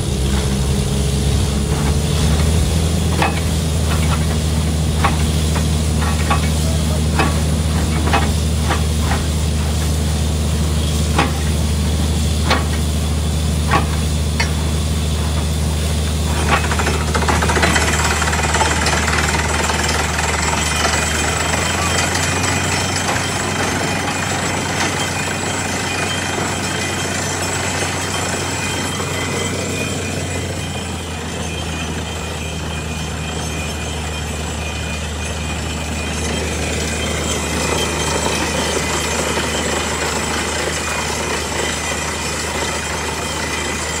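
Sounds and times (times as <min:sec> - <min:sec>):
drilling rig humming: 0:00.0 - 0:44.0.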